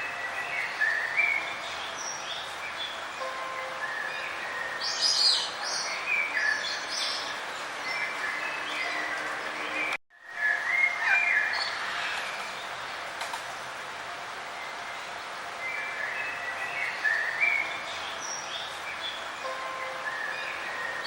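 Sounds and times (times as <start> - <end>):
birds chirping and trilling: 0.0 - 21.0
steady outdoor hiss: 0.0 - 21.0.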